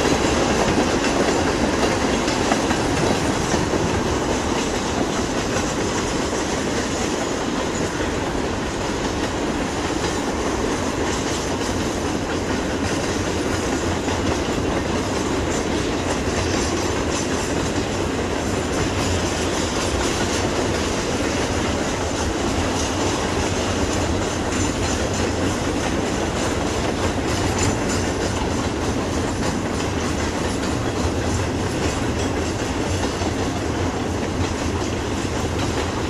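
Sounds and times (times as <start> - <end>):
steel wheels rumbling and clicking: 0.0 - 36.0.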